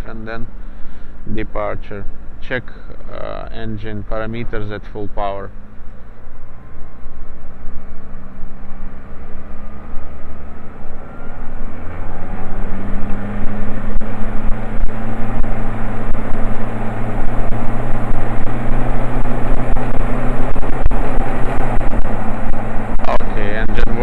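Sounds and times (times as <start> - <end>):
aircraft engine full power drone: 0.0 - 24.0.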